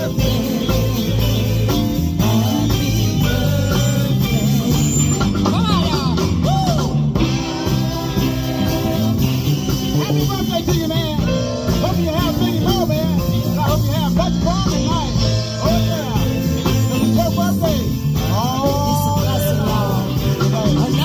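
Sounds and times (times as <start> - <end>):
live band playing: 0.0 - 21.0
sliding lead melody: 0.0 - 21.0.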